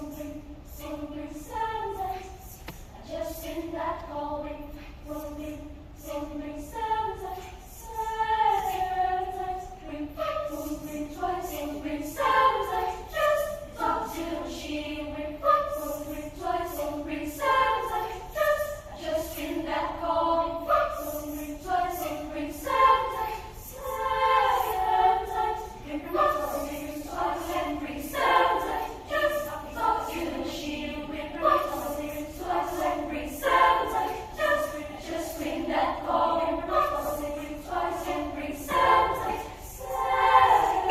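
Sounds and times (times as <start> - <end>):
children's choir singing: 0.0 - 40.9.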